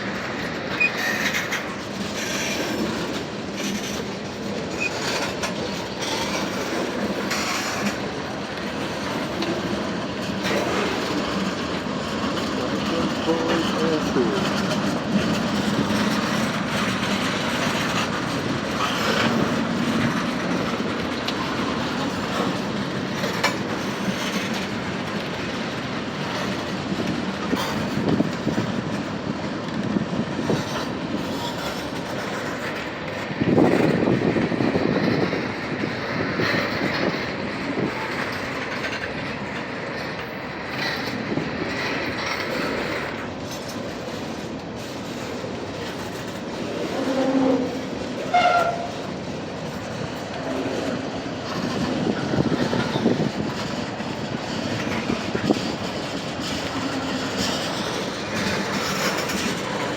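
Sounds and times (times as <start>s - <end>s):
freight train cars rolling: 0.0s - 59.9s
wheels clicking over rail joints: 0.0s - 59.9s
steel wheels squealing on rail: 0.1s - 8.2s, 8.9s - 25.5s, 26.2s - 29.2s, 30.4s - 59.9s.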